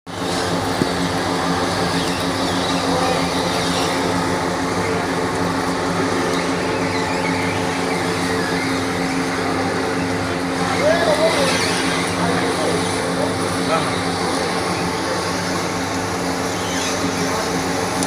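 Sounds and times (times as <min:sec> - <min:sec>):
oil press machine humming: 0:00.1 - 0:18.0.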